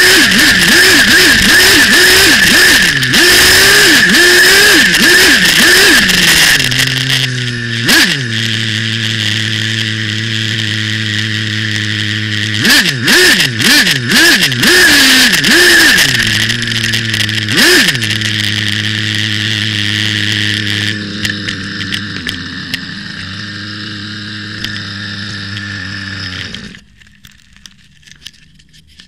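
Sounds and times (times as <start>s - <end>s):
model car engine revving: 0.0s - 27.3s.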